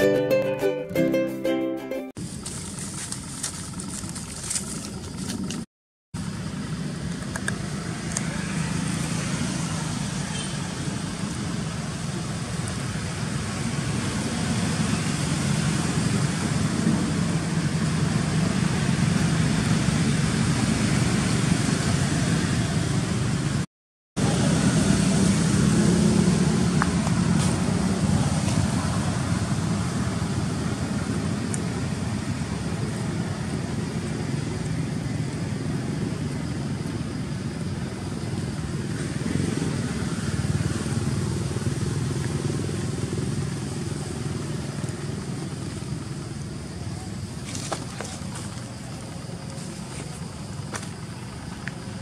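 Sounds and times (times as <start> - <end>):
low rumble of motor traffic: 2.2 - 52.0.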